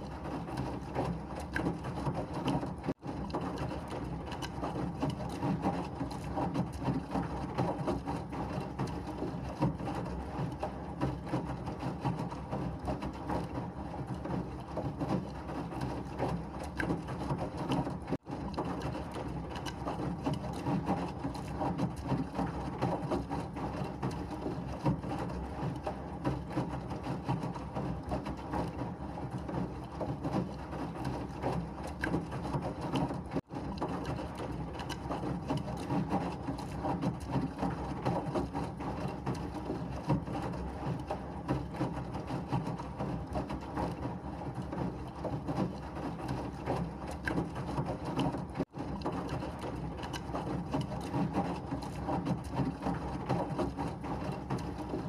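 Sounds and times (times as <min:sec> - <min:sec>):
washing machine churning: 0:00.0 - 0:55.0.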